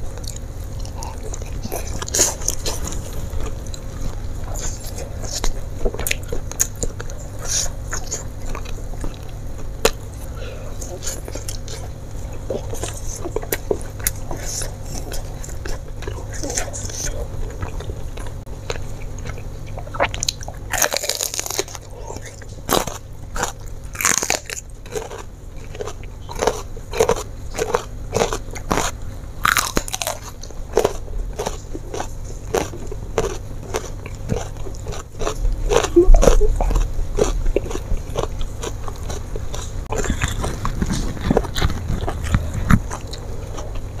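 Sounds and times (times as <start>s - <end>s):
crunchy vegetable chewing: 0.0s - 44.0s.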